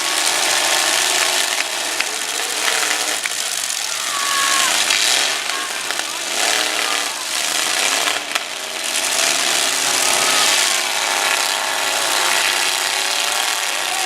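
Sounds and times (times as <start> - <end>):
truck engines revving: 0.0 - 14.0.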